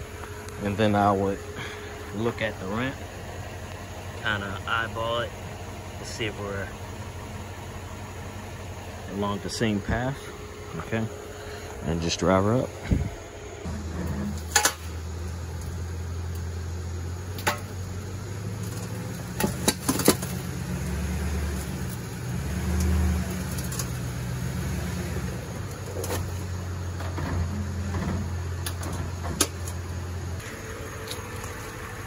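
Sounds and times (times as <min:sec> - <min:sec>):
truck engine idling: 0:00.0 - 0:32.0.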